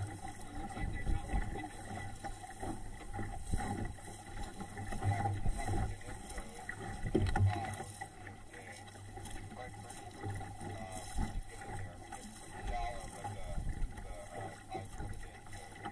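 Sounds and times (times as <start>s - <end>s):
wind rumbling on microphone: 0.0s - 8.0s, 9.2s - 15.9s
water sloshing against boat hull: 0.0s - 15.9s.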